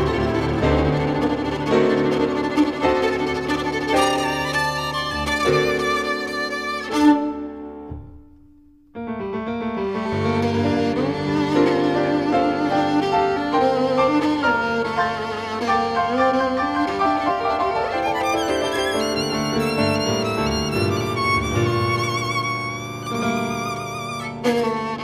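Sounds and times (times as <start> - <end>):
violin playing with vibrato: 0.0 - 7.7, 9.8 - 25.0
piano: 0.0 - 25.0.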